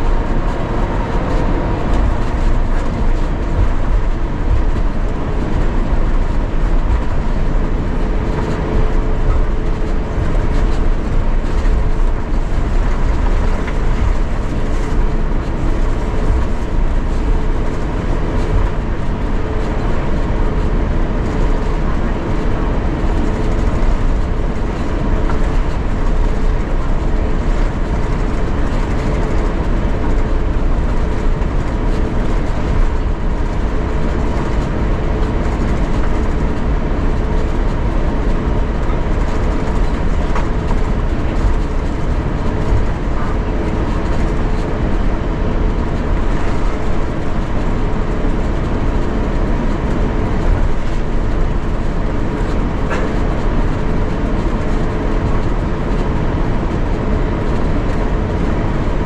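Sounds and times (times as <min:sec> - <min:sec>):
low cabin rumble: 0:00.0 - 0:59.0
steady humming tones: 0:00.0 - 0:59.0.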